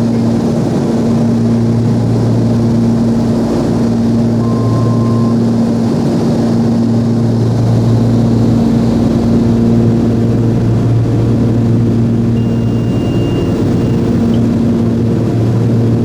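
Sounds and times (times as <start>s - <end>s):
aircraft engines droning: 0.0s - 16.0s.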